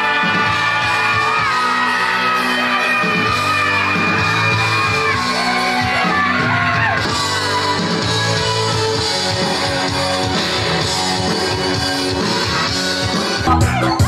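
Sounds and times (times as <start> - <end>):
people yelling and whooping: 0.0 - 8.1, 9.3 - 14.0
loud music with singing: 0.0 - 14.0.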